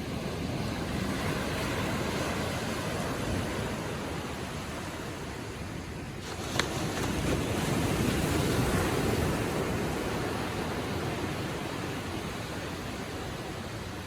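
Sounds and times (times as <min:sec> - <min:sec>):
small waves washing onto beach: 0:00.0 - 0:14.0.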